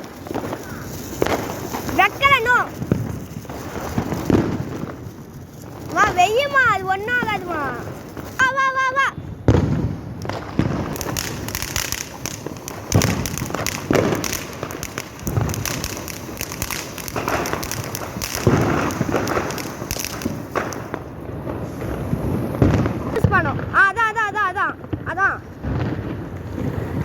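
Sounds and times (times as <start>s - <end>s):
loud firecracker bangs: 0.0s - 23.8s, 24.8s - 27.0s
firecrackers crackling: 0.0s - 27.0s.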